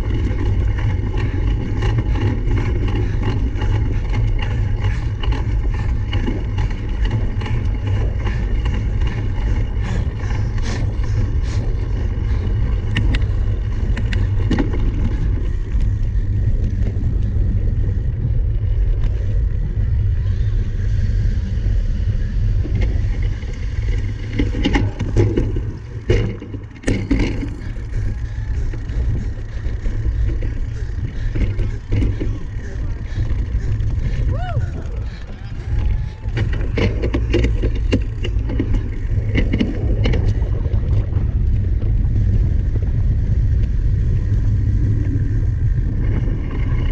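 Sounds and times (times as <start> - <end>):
bike rattling over rough ground: 0.0 - 46.9
wind rumble on microphone: 0.0 - 46.9.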